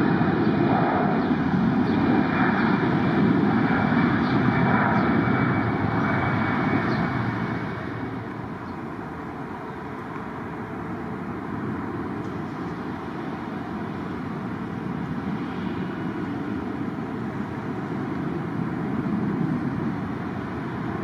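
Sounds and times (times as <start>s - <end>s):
jet airliner passing: 0.0s - 21.0s.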